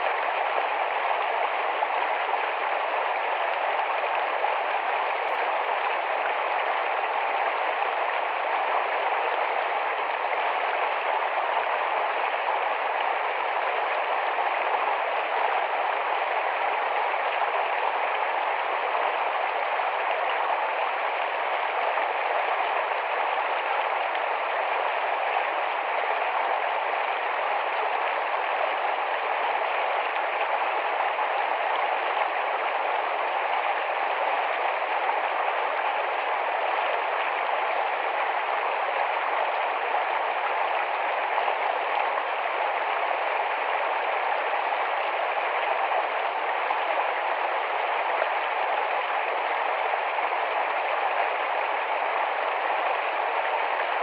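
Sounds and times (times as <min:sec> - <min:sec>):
shallow stream flowing: 0:00.0 - 0:54.0.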